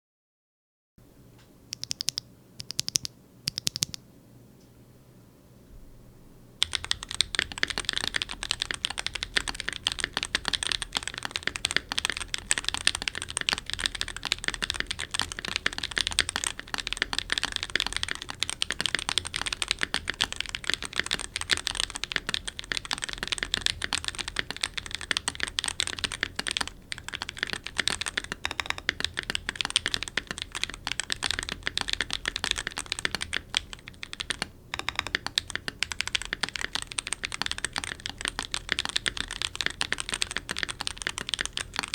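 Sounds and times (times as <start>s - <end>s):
mechanical keyboard typing: 1.7s - 4.0s, 6.6s - 41.9s.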